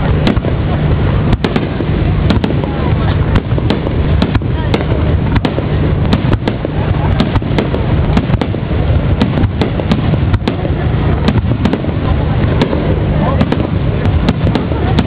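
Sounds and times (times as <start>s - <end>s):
fireworks bangs and crackles: 0.0s - 15.0s
fireworks rumble: 0.0s - 15.0s.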